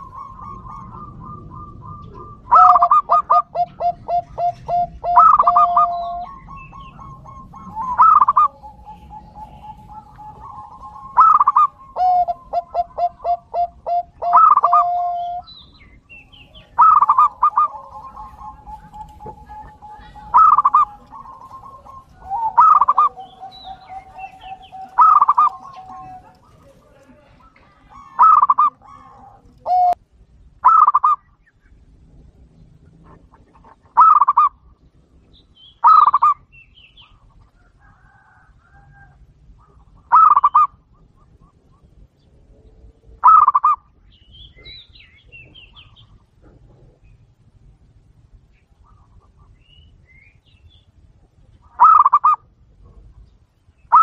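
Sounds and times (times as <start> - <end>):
doves calling: 0.0 - 54.0.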